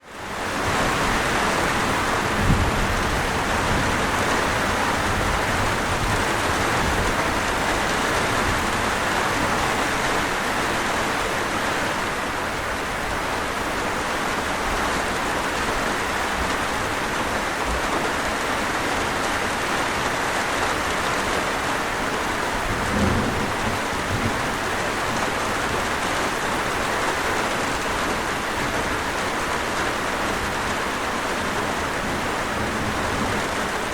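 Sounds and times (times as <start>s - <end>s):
heavy rain on a surface: 0.0s - 33.9s.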